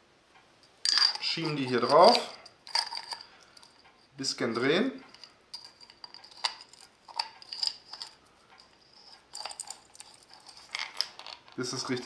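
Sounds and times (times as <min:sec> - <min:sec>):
light metallic clicks and clinks: 0:00.6 - 0:12.0.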